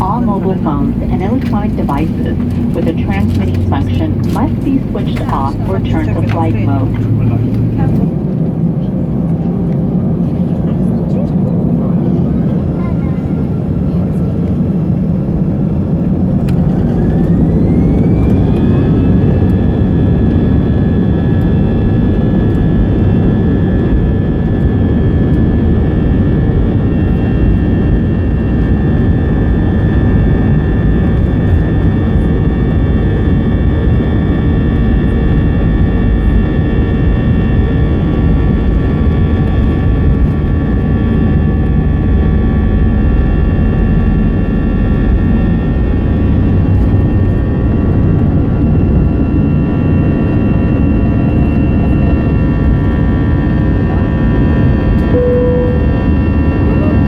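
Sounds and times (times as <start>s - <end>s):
jet engines whining and rumbling: 0.0s - 57.0s.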